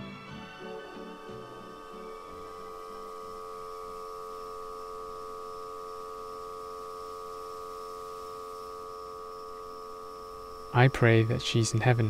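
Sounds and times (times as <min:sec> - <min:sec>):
steady held tone: 0:00.0 - 0:12.0.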